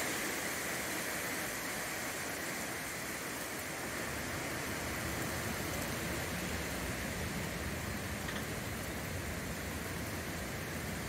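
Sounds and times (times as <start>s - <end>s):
rain: 0.0s - 11.0s
wind: 0.0s - 11.0s.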